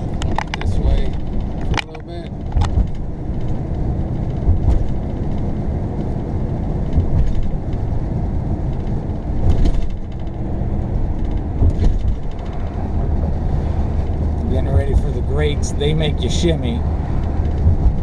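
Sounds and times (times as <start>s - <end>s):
vehicle engine and tyres rumbling: 0.0s - 18.0s.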